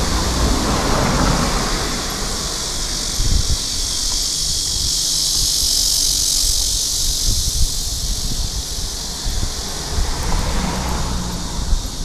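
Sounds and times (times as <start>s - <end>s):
high insect drone: 0.0s - 12.0s
wind buffeting microphone: 0.0s - 12.0s.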